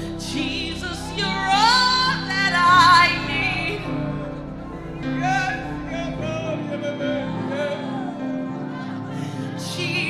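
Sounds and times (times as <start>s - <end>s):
keyboard chords and bass: 0.0s - 10.0s
person singing: 0.0s - 10.0s.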